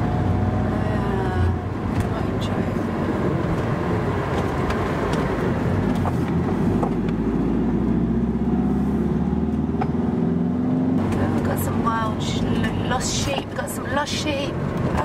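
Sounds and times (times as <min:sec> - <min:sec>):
motorhome engine: 0:00.0 - 0:15.0
road noise: 0:00.0 - 0:15.0.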